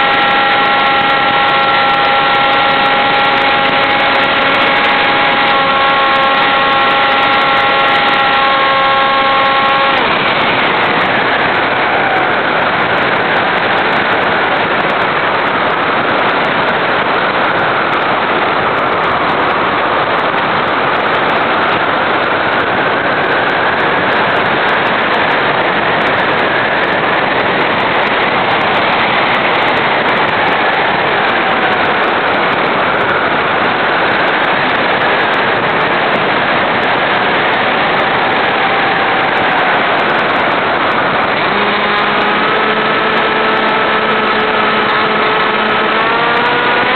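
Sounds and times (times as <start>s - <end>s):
model plane motor and propeller whine: 0.0s - 46.9s
wind rush over airframe: 0.0s - 46.9s.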